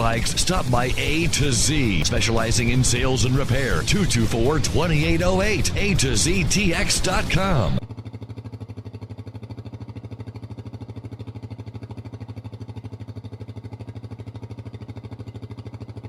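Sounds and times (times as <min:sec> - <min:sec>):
dirt bike engine idling: 0:00.0 - 0:16.0.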